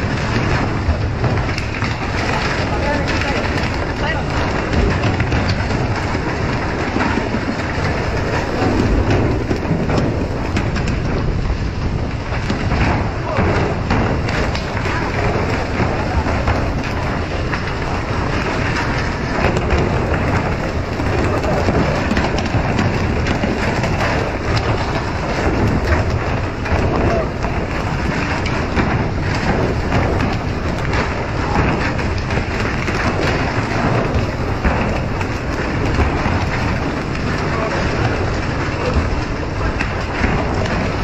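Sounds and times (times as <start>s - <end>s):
wind: 0.0s - 41.0s.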